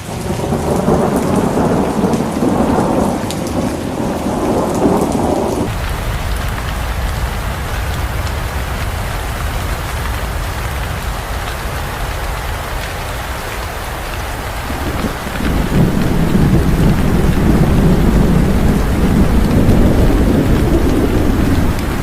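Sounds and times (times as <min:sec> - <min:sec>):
thunder rumbling: 0:00.0 - 0:12.0, 0:13.9 - 0:22.0
heavy rain falling: 0:00.0 - 0:22.0.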